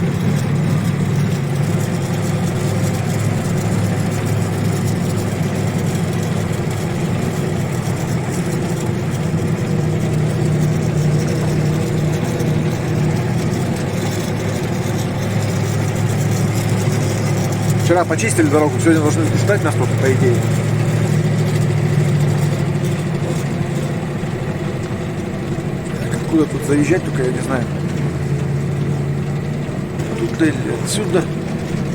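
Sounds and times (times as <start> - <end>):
truck engine running: 0.0 - 31.9.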